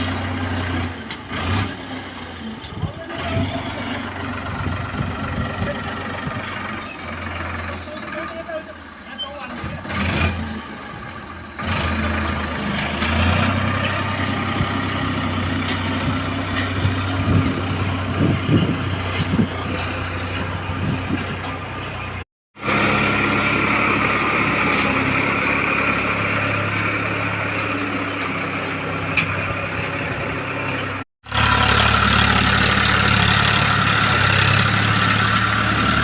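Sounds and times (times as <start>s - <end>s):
tractor engine humming: 0.0s - 9.8s, 10.4s - 36.0s.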